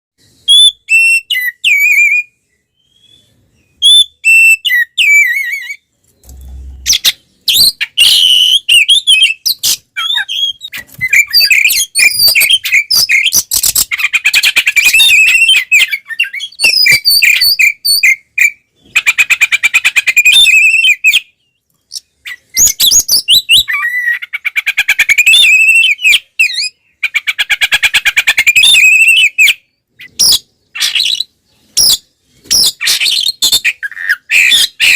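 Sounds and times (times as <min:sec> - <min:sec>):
songbird singing loudly: 0:00.2 - 0:34.9.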